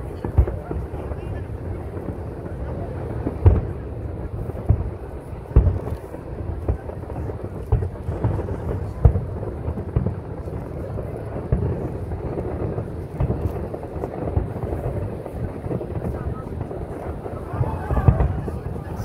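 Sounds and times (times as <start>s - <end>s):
sharp firework bangs: 0.0s - 19.0s.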